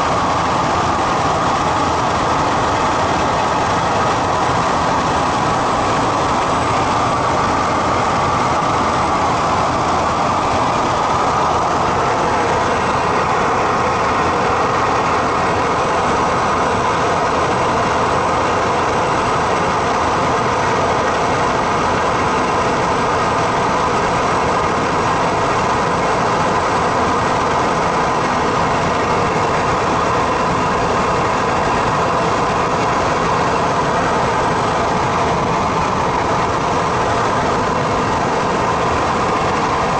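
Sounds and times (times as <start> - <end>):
broad rush of noise: 0.0 - 39.9
propeller plane engine drone: 0.0 - 39.9.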